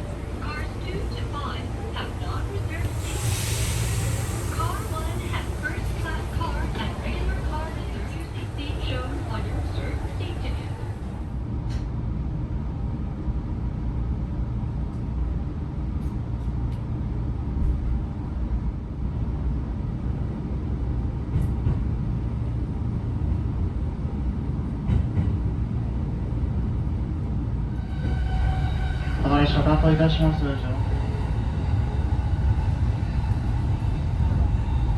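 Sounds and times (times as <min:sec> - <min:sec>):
train rumbling: 0:00.0 - 0:34.9.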